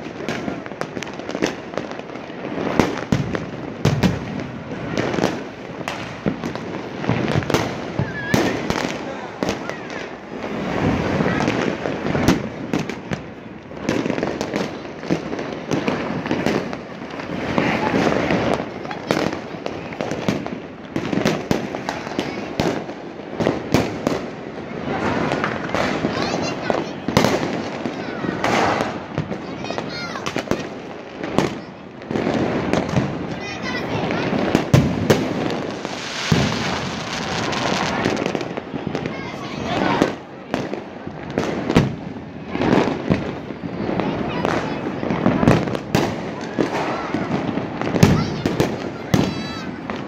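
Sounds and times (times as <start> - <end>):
distant fireworks crackling: 0.0 - 50.0
fireworks sharp bangs: 0.0 - 50.0.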